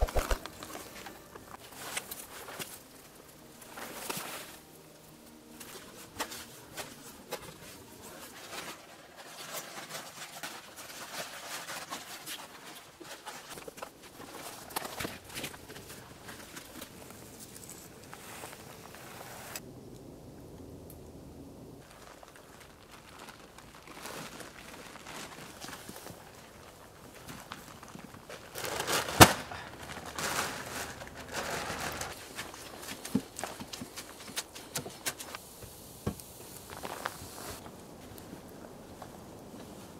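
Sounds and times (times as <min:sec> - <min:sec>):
footsteps crunching on forest ground: 0:00.0 - 0:09.9, 0:13.3 - 0:19.6, 0:21.8 - 0:39.9
moss rustling in plastic sack: 0:00.0 - 0:19.6, 0:21.8 - 0:39.9.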